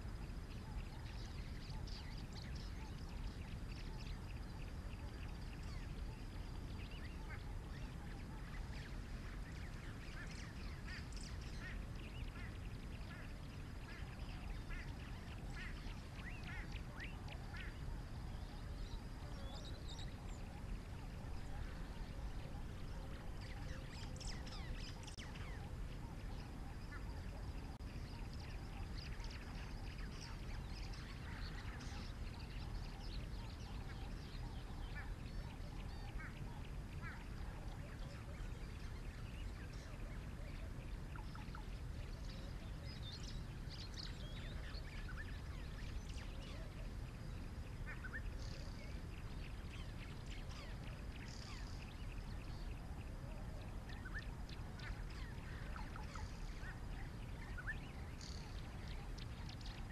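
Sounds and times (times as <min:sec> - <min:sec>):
low background rumble: 0:00.0 - 0:59.9
wild birds chirping: 0:00.0 - 0:59.9.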